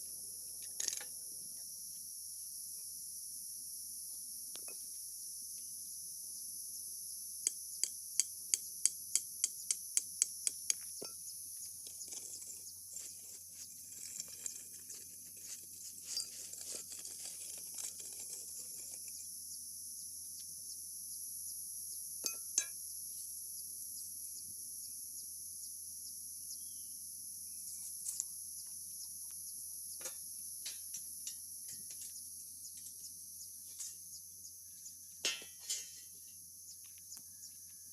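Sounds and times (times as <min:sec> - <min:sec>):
insect trill: 0:00.0 - 0:37.9.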